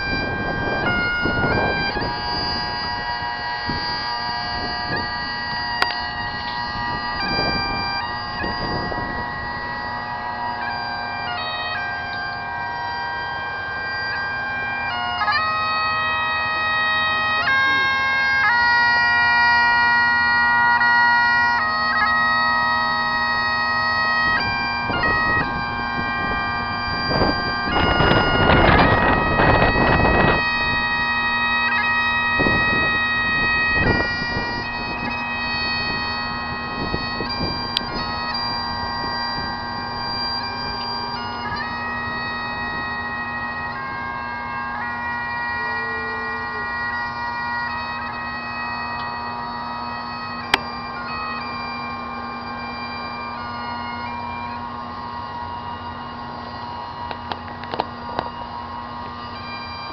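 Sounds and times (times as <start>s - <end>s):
bagpipes playing slow tune: 0.0s - 59.9s.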